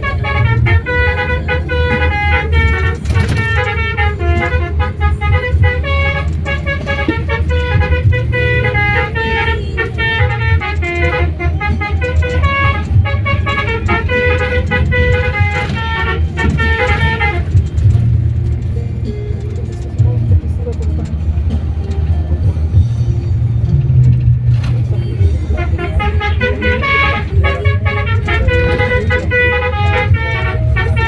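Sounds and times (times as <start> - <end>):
bus horn playing a tune: 0.0 - 20.3, 24.1 - 31.0
bus engine rumble: 0.0 - 31.0.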